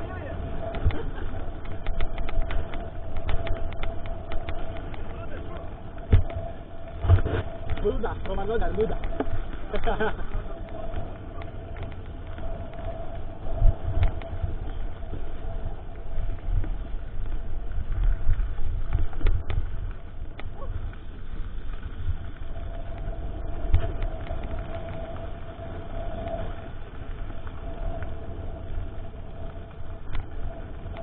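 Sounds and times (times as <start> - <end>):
steady hum: 0.0 - 31.0
wind and tyres on trail: 0.0 - 31.0.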